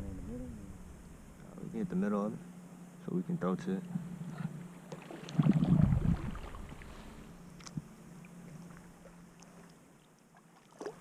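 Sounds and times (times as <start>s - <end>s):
boat motor hum: 0.0s - 11.0s
rumbling water and wind: 0.0s - 11.0s.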